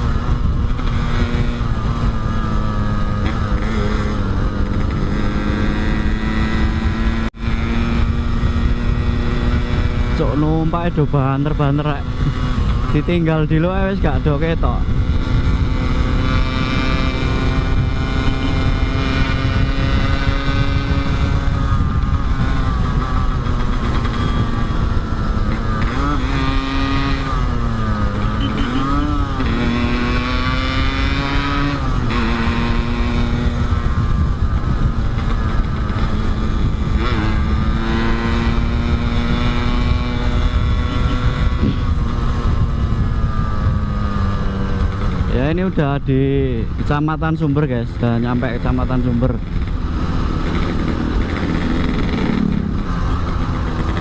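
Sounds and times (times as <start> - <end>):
motorcycle engine cruising: 0.0 - 54.0
wind rumble: 0.0 - 54.0.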